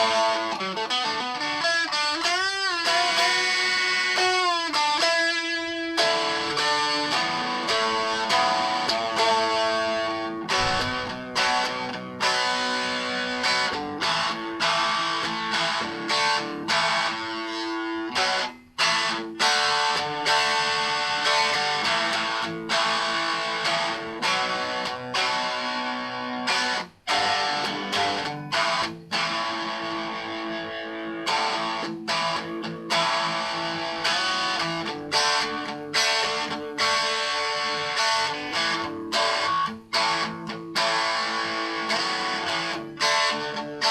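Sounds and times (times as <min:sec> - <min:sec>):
plucked and strummed guitar: 0:00.0 - 0:43.9.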